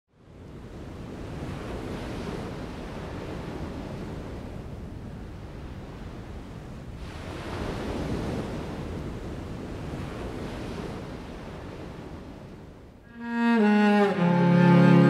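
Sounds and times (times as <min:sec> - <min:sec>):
waves breaking: 0:00.4 - 0:15.0.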